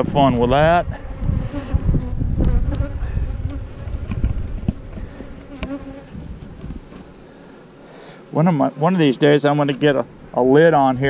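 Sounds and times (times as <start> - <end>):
honeybees buzzing: 0.7 - 11.0.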